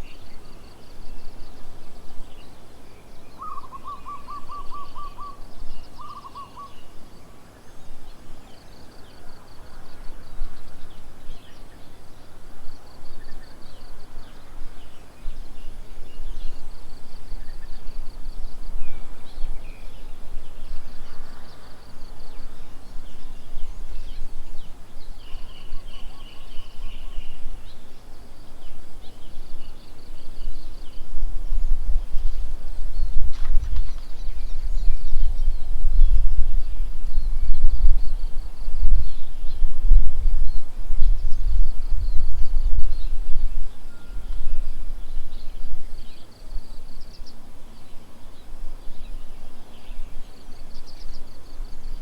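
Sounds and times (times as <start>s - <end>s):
bird pulsed hooting call: 0.0s - 52.0s.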